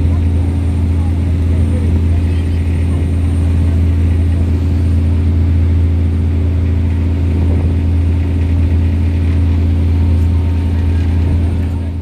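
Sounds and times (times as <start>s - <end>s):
boat engine drone: 0.0s - 12.0s
water rushing along hull: 0.0s - 12.0s.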